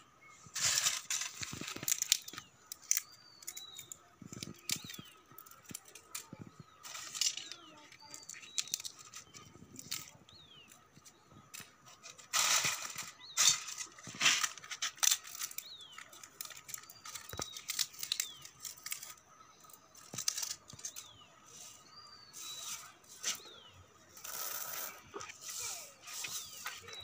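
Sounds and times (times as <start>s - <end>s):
dry pods crackling: 0.0s - 27.0s
bird chirps: 1.4s - 14.5s, 15.2s - 27.0s.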